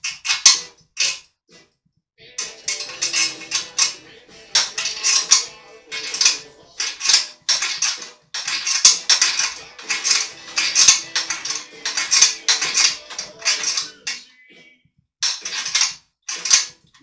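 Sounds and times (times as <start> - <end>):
metal hardware clinking: 0.0 - 1.2, 2.4 - 14.3, 15.2 - 17.0.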